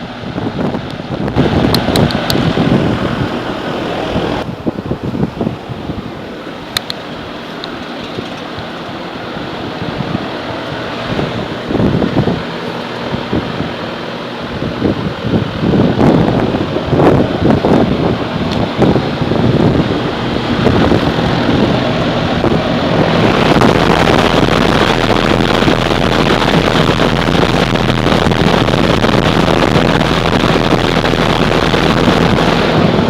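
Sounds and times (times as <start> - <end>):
fan rushing: 0.0 - 33.0
wind buffeting microphone: 0.0 - 33.0
low compressor hum: 1.1 - 33.0.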